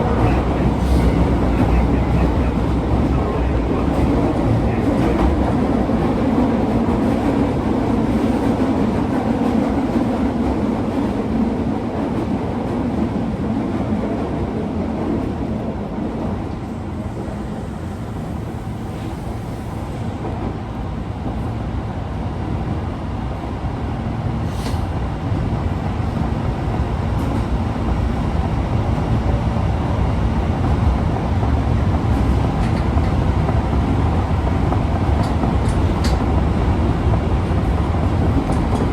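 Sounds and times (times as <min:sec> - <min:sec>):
subway car wheels rumbling: 0:00.0 - 0:38.9.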